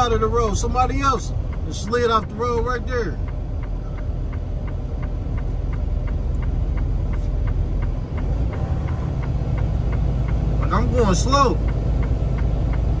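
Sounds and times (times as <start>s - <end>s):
truck engine and tyres rumbling: 0.0s - 13.0s.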